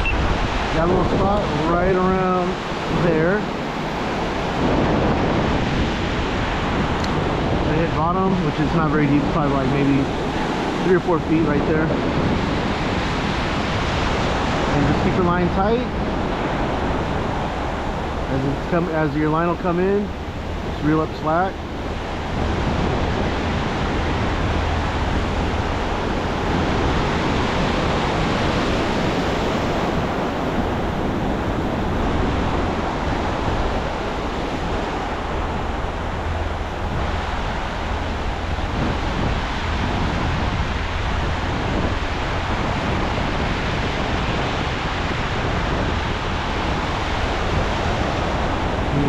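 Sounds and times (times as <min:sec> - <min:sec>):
ocean surf breaking: 0:00.0 - 0:49.0
wind buffeting microphone: 0:00.0 - 0:49.0.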